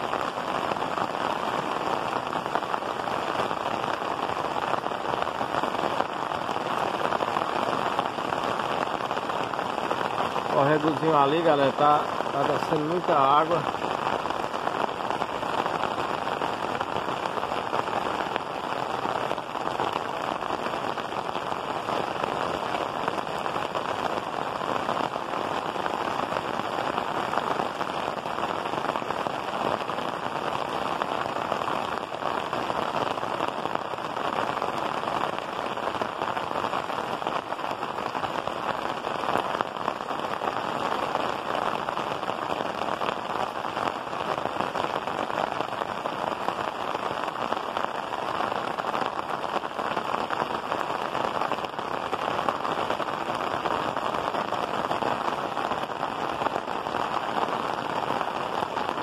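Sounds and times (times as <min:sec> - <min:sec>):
heavy rain on tiled roofs: 0:00.0 - 0:59.0.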